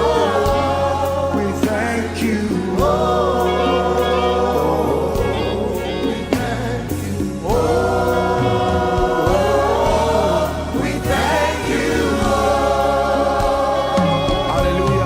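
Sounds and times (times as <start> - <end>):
gospel choir singing: 0.0 - 15.0
instrumental backing: 0.0 - 15.0.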